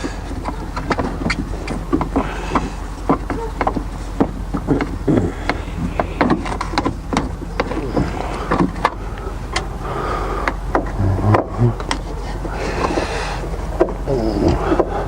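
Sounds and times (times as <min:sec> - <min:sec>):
hand tools clicking and knocking: 0:00.0 - 0:15.0
steady low hum: 0:00.0 - 0:15.0.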